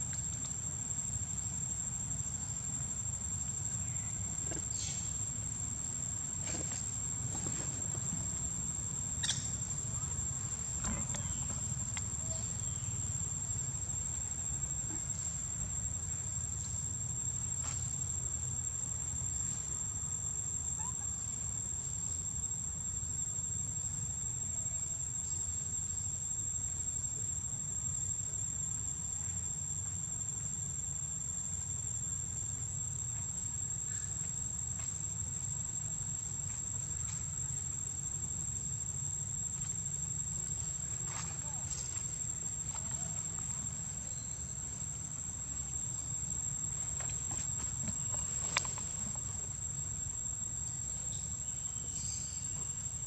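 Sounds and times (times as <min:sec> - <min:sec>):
insect chorus drone: 0:00.0 - 0:53.0.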